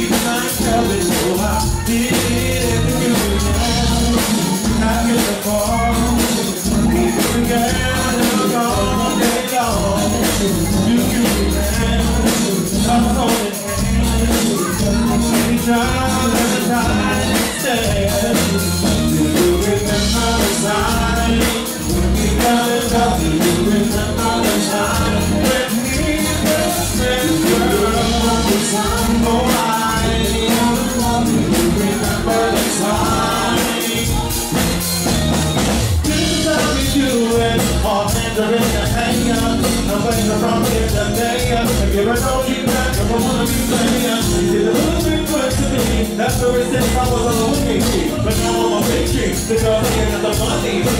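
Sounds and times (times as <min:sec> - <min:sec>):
congas: 0:00.0 - 0:50.9
lead vocals singing: 0:00.0 - 0:50.9
live band playing dance music: 0:00.0 - 0:50.9.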